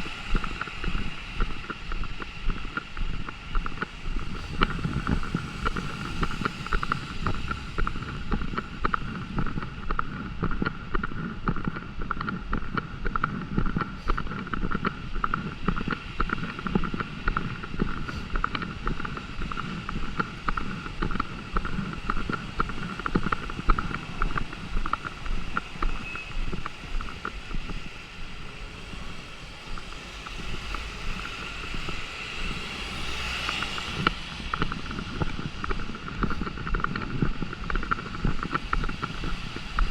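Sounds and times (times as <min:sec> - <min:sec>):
rain: 0:00.0 - 0:09.7, 0:15.0 - 0:39.9
wind buffeting microphone: 0:00.0 - 0:39.9.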